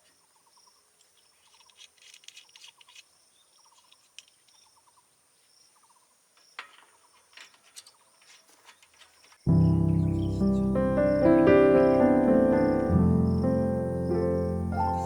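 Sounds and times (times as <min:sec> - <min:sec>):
insect buzz: 0:00.0 - 0:15.0
insect chirps: 0:00.0 - 0:15.0.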